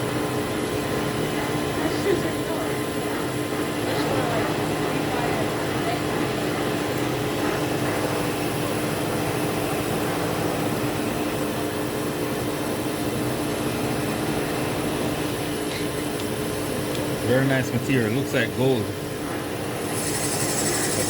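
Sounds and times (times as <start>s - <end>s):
metal lathe humming: 0.0s - 21.0s.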